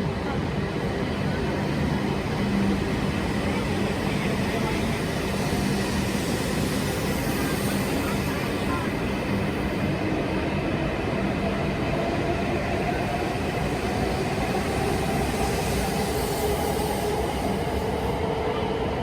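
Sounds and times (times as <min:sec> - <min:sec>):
train rushing: 0:00.0 - 0:19.0.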